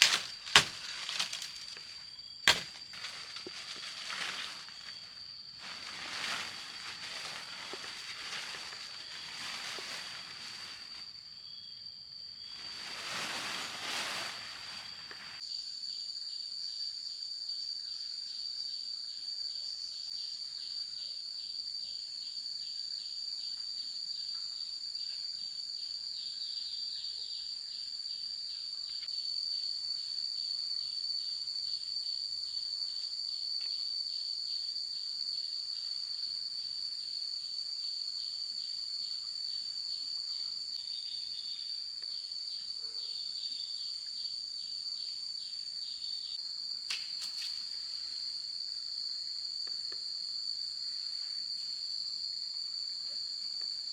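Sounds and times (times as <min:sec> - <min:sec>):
insects trilling: 0:00.0 - 0:53.9
pulsing insect chirp: 0:00.0 - 0:53.9.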